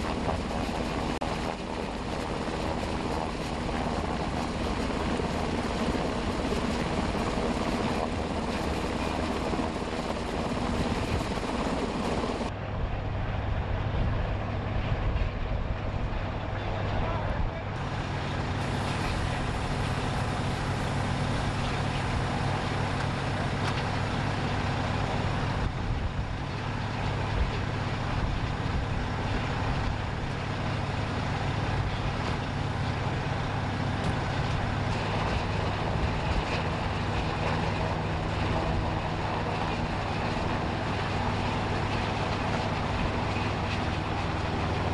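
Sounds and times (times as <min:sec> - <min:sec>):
continuous rushing noise: 0:00.0 - 0:44.9.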